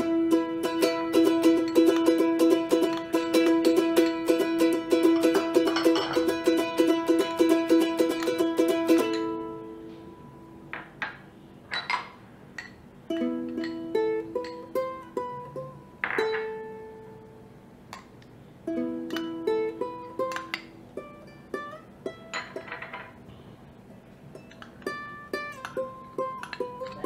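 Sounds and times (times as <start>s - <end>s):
plucked string tune: 0.0s - 10.7s, 13.0s - 17.4s, 18.6s - 23.2s, 24.3s - 27.0s.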